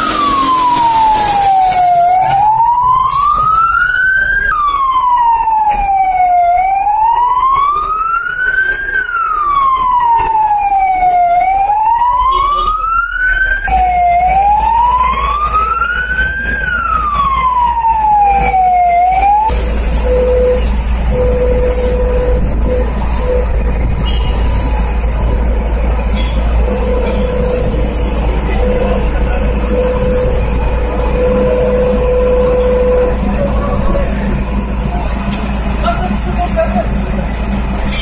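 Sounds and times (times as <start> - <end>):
loud steady rushing noise: 0.0 - 6.0, 13.4 - 38.0
fire engine siren wailing: 0.0 - 38.0.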